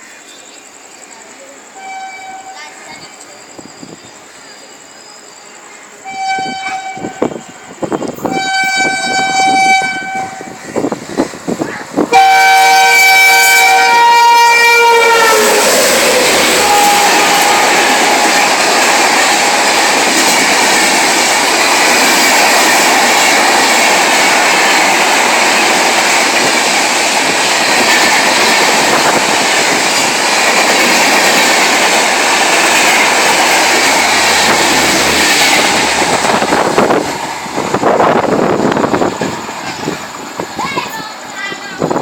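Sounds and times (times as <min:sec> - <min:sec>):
train wheels rumbling and rattling: 0:00.0 - 0:42.0.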